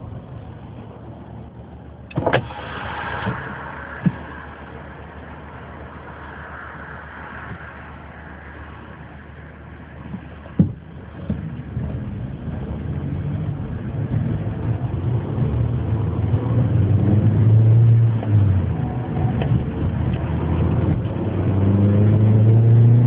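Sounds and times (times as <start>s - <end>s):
racing car engine: 0.0s - 23.0s.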